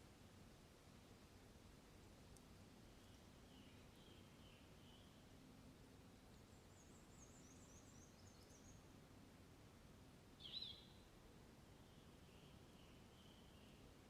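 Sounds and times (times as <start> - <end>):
faint birdsong chirps: 1.9 - 14.0.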